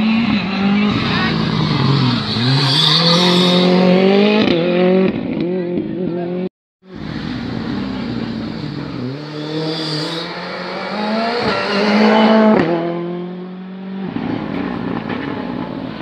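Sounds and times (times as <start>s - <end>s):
rally car engine passing: 0.0s - 5.7s, 6.3s - 16.0s.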